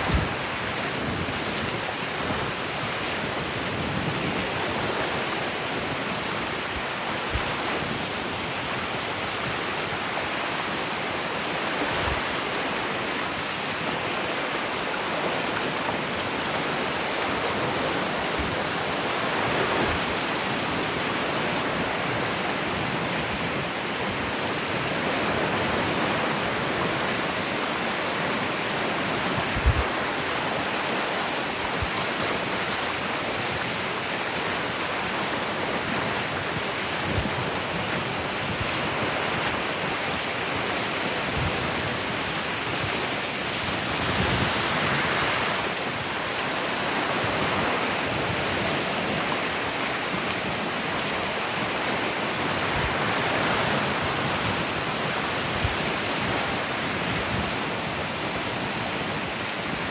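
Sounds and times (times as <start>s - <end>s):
ocean surf on beach: 0.0s - 59.9s.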